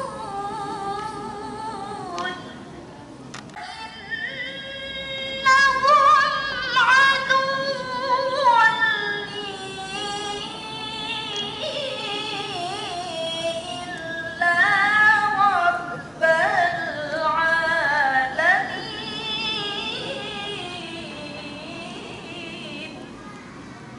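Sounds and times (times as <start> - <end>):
woman reciting melodically: 0.0 - 23.3.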